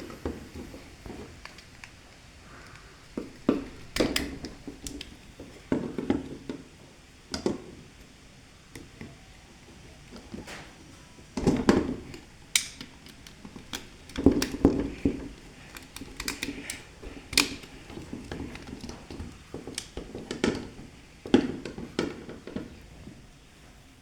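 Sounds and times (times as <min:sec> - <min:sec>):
clicks and taps on switch fittings: 0:00.1 - 0:23.1.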